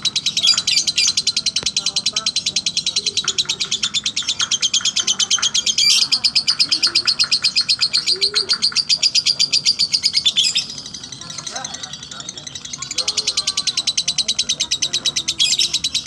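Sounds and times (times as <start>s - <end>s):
bird shrill chirping chatter: 0.0s - 16.0s.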